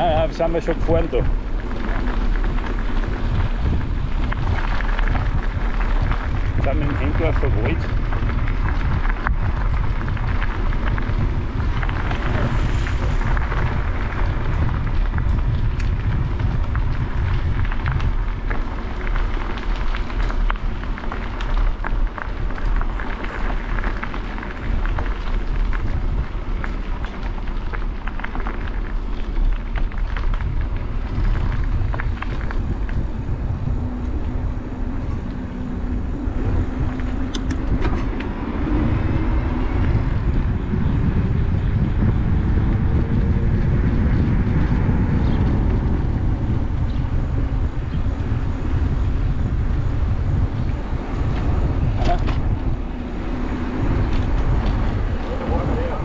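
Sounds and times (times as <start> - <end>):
low hum: 0.0 - 56.0
tyres crackling over gravel: 0.0 - 56.0
wind buffeting microphone: 0.0 - 56.0.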